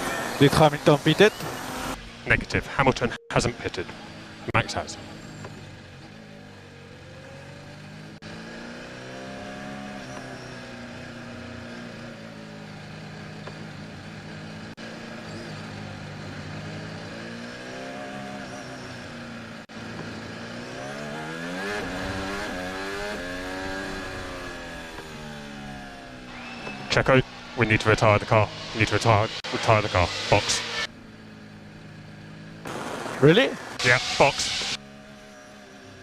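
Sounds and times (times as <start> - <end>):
racing car engine: 0.0 - 36.0.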